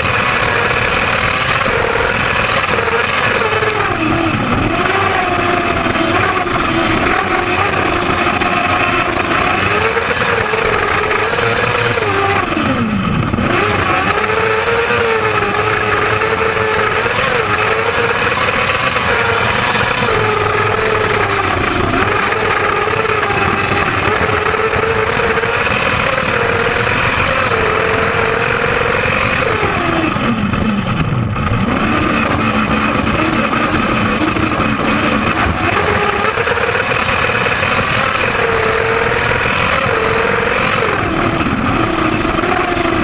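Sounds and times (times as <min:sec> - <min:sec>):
motorcycle engine revving hard: 0:00.0 - 0:43.0.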